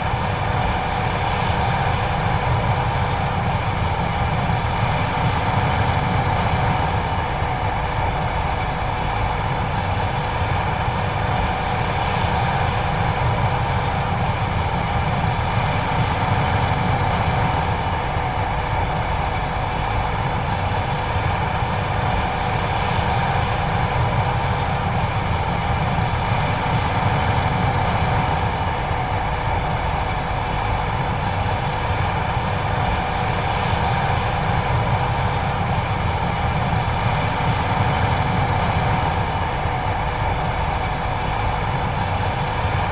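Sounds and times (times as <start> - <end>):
combine harvester droning: 0.0 - 42.9.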